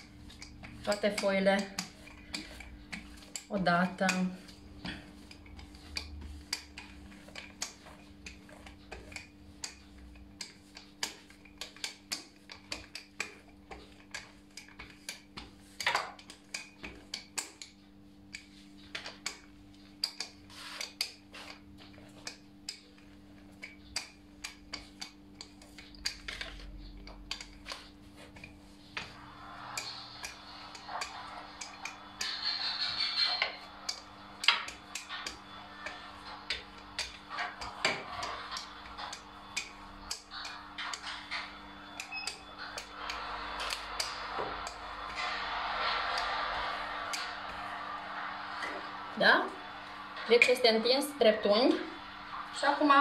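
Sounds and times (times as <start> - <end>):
rolling pin tapping on stone: 0.0 - 47.7
rolling pin rolling dough: 0.0 - 53.0.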